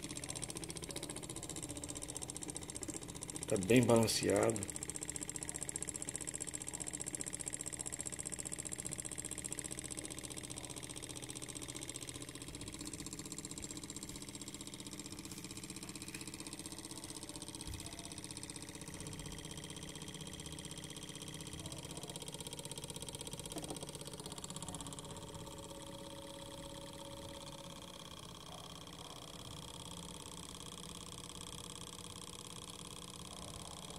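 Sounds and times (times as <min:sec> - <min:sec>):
stirling engine rhythmic clicking: 0:00.0 - 0:33.9.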